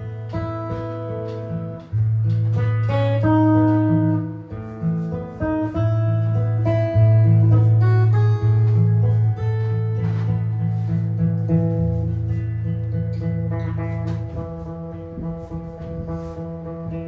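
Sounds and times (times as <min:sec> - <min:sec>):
jazz guitar: 0:00.0 - 0:17.0
low sustained bass notes: 0:00.0 - 0:17.0.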